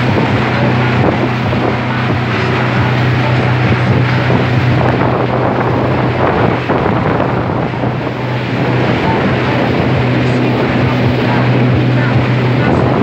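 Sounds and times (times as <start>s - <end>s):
motorboat engine drone: 0.0s - 13.0s
water rushing: 0.0s - 13.0s
wind buffeting microphone: 0.0s - 13.0s.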